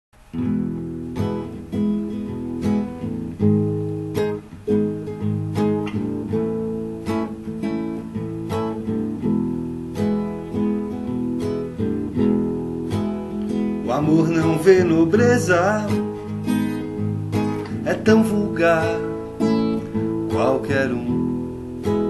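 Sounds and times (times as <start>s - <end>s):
acoustic guitar strumming chords: 0.2s - 22.0s.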